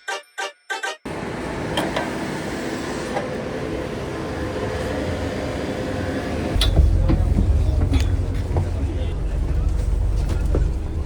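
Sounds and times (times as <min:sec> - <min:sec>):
train rumble: 0:01.1 - 0:11.0.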